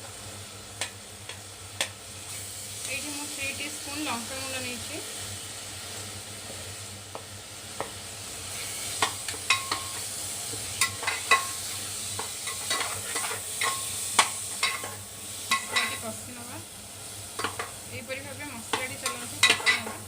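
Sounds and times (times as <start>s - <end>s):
masala sizzling in oil: 0.0s - 20.0s.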